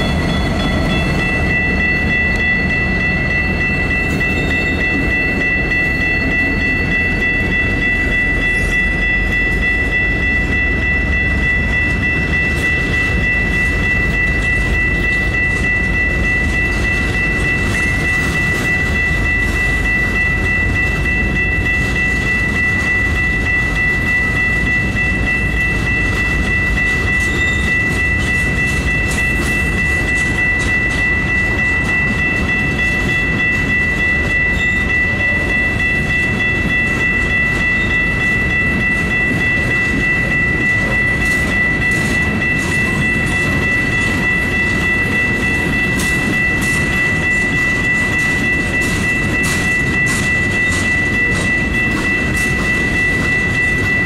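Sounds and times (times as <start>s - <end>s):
freight train rumbling past: 0.0s - 54.0s
high whine: 0.0s - 54.0s.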